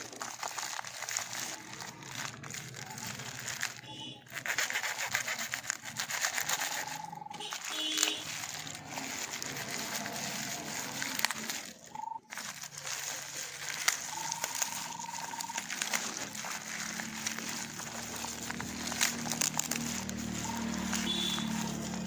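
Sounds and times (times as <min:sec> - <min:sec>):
packaging crinkling and clicking: 0:00.0 - 0:22.0.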